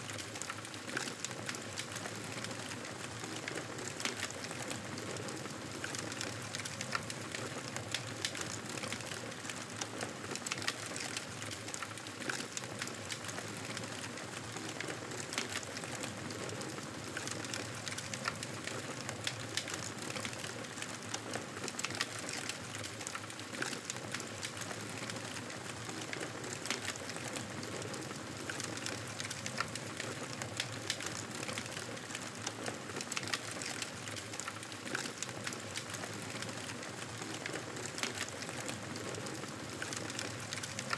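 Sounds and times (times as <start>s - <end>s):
campfire crackling and hissing: 0.0s - 40.9s.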